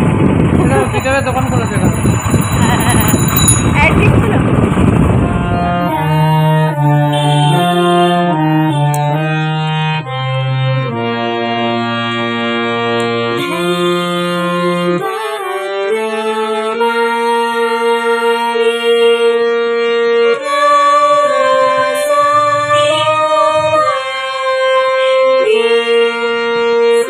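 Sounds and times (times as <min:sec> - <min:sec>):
harmonium chords and melody: 0:00.0 - 0:27.0.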